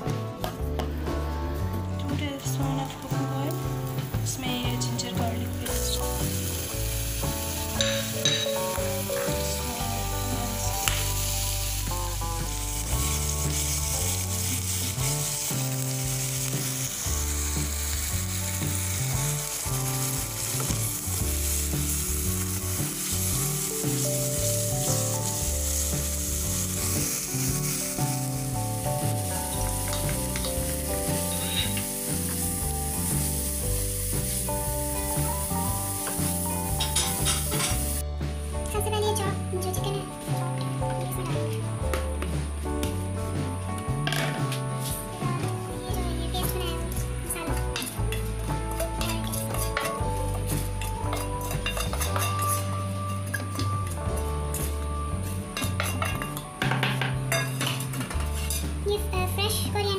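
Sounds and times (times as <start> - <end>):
onions sizzling in oil: 2.5 - 59.1.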